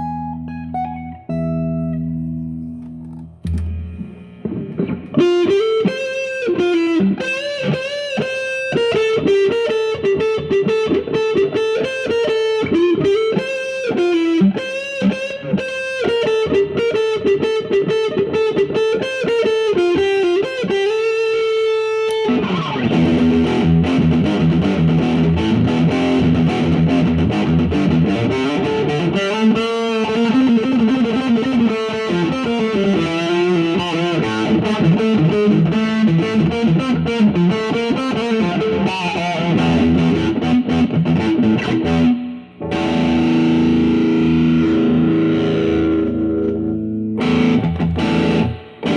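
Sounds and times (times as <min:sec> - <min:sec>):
electric guitar playing: 0:00.0 - 0:48.9.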